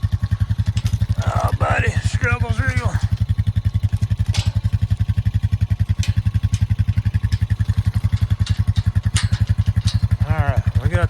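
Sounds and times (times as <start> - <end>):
faint clicks and clanks: 0.0 - 11.0
farm vehicle engine idling: 0.0 - 11.0.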